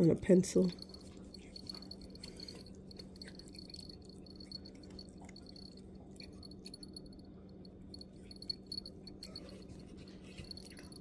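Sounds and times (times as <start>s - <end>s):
puppy chewing food: 0.6s - 11.0s.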